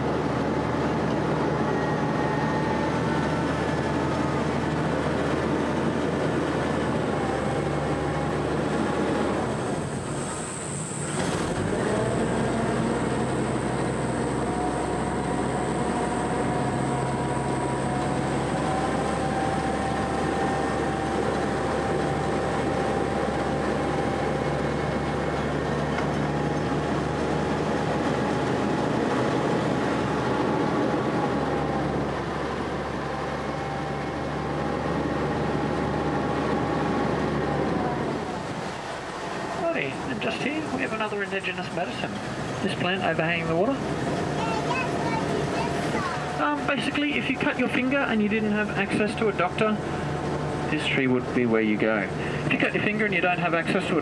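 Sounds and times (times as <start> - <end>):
amphibious vehicle engine droning: 0.0 - 54.0.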